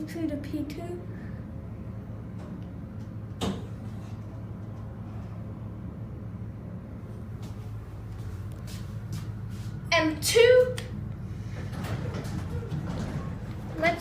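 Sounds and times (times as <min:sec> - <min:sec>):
elevator cab humming: 0:00.0 - 0:14.0.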